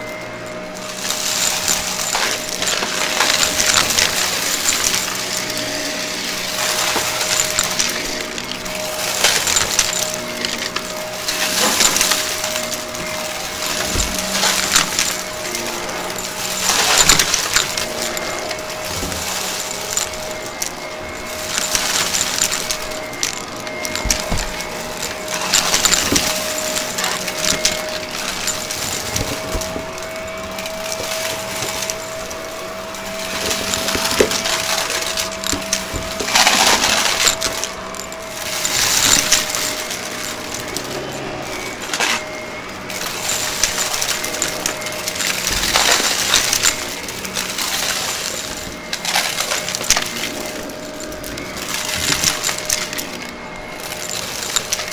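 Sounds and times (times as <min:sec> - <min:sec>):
crackles of debris picked up: 0:00.0 - 0:54.9
vacuum cleaner running over carpet: 0:00.0 - 0:54.9.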